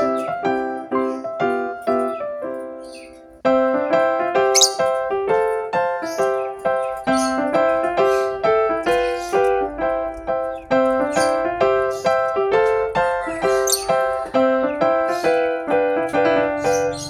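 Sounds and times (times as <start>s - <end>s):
piano music single notes: 0.0s - 17.0s.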